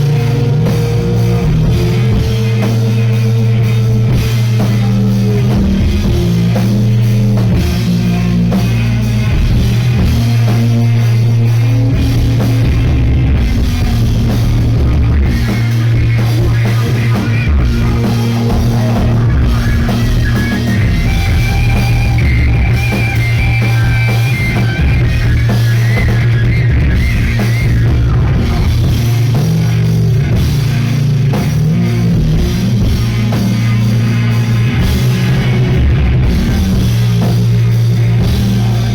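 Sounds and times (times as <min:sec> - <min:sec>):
high lead guitar line: 0:00.0 - 0:38.9
rock band playing live: 0:00.0 - 0:38.9.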